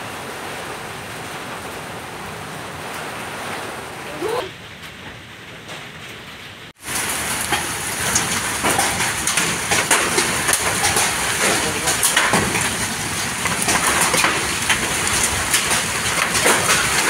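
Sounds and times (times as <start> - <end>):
heavy rain hissing: 0.0 - 4.8, 6.7 - 17.0
hailstones hitting: 0.0 - 17.0.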